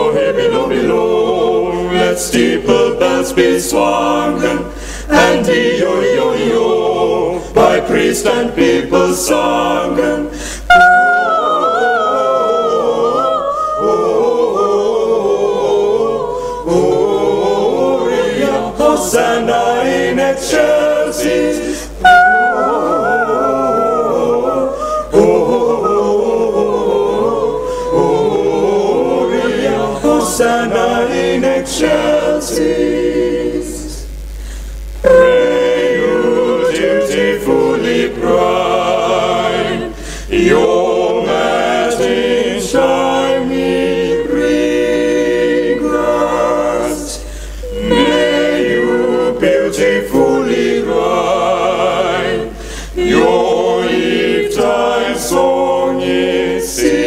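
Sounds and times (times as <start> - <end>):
a cappella group singing carol: 0.0 - 57.0.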